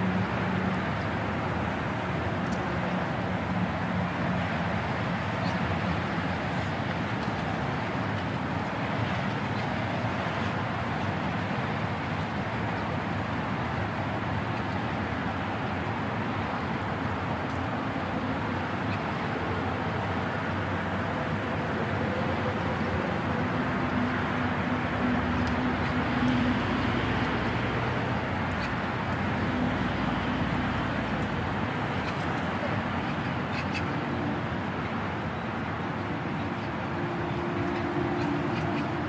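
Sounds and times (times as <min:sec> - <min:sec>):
heavy machinery diesel engines: 0:00.0 - 0:39.0.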